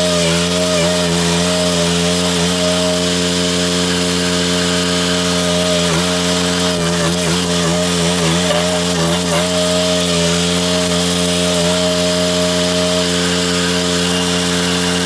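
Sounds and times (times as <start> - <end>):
cutting wheel hissing: 0.0 - 15.0
petrol engine running at high speed: 0.0 - 15.0.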